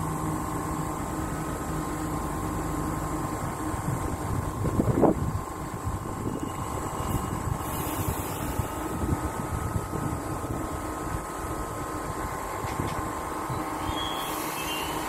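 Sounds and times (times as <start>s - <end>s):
electric train hum and rumble: 0.0s - 15.0s.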